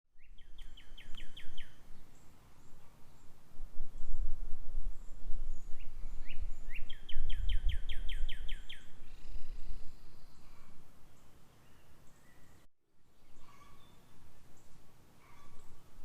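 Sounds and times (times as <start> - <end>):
songbird chirping: 0.1 - 4.2, 5.0 - 16.0.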